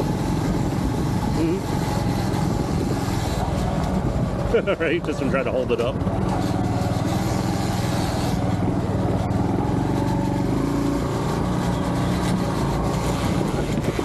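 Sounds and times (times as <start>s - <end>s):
motorcycle engine running: 0.0s - 14.0s
unidentified mechanical noise: 0.0s - 14.0s.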